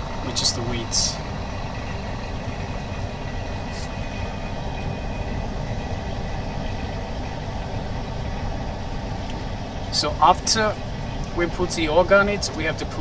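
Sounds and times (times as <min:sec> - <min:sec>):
machine humming and rumbling: 0:00.0 - 0:13.0.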